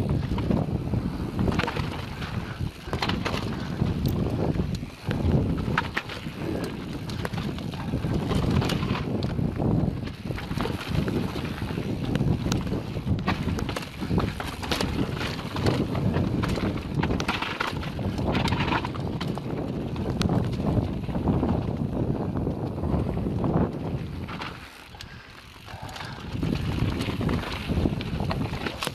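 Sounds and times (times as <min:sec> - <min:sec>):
bike rattling over rocks: 0:00.0 - 0:28.9
tyre noise on dirt and rock: 0:00.0 - 0:28.9
wind buffeting microphone: 0:00.0 - 0:28.9.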